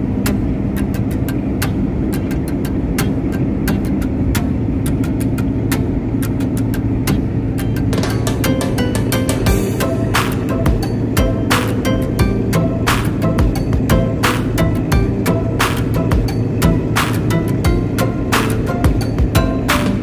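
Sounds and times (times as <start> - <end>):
vehicle engine and road drone: 0.0 - 20.0.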